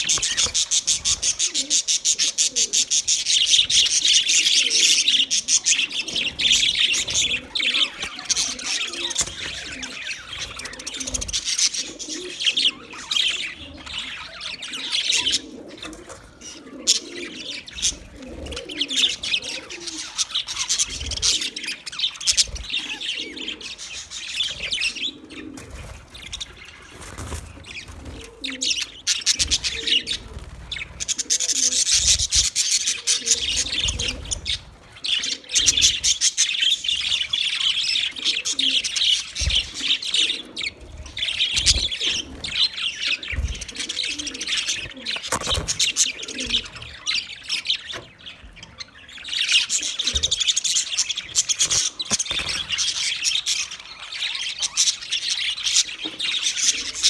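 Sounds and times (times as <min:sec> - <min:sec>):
budgerigars chirping: 0:00.0 - 0:15.6, 0:16.4 - 0:57.0.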